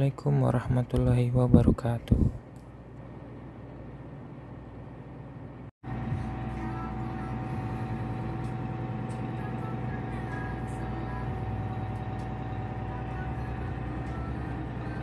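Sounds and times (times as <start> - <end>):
deep machinery hum: 0.0 - 15.0
thin steady whine: 1.4 - 15.0.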